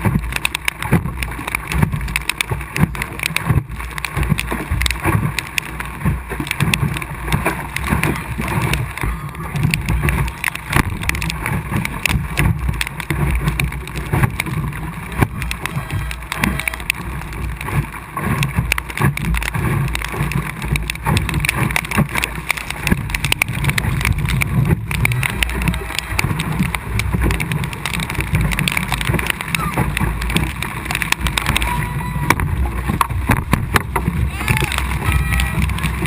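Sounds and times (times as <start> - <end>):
small irregular knocks and spatters: 0.0 - 36.0
water splashing along boat hull: 0.0 - 36.0
wind rumbling on microphone: 0.0 - 36.0.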